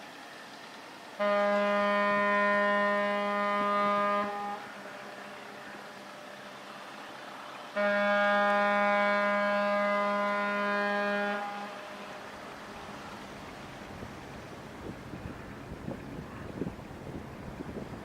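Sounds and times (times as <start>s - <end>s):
ship's horn blasts: 1.2s - 5.4s, 7.7s - 18.0s.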